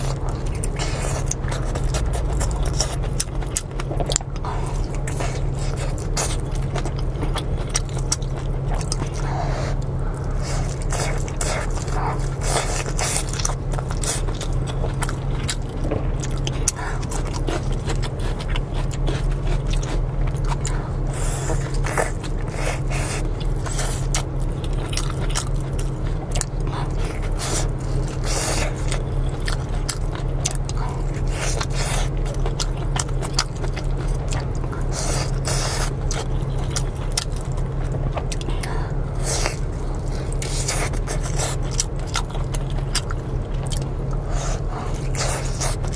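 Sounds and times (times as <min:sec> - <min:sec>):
close-up eating and chewing: 0:00.0 - 0:45.9
steady low hum: 0:00.0 - 0:45.9.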